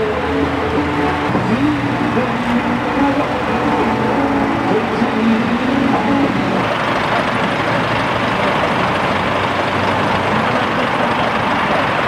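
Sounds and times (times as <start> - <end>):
heavy truck engine rumble: 0.0 - 12.0
road traffic noise: 0.0 - 12.0.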